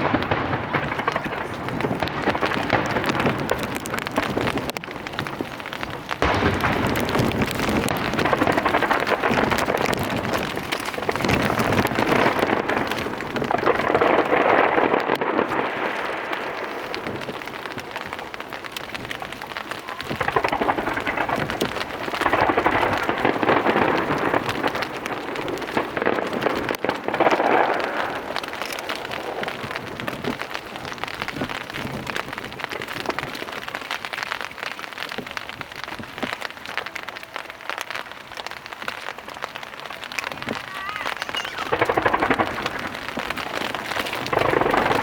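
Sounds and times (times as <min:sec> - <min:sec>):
heavy rain pattering: 0:00.0 - 0:45.0.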